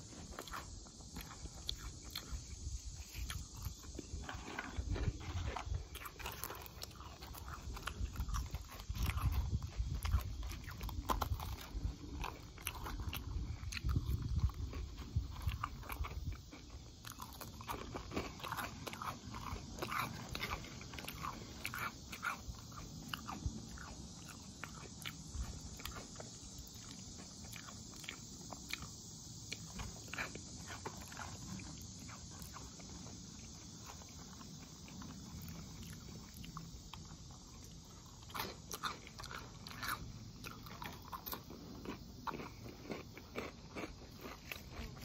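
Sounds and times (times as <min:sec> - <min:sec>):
chewing and crunching food: 0:00.0 - 0:45.0.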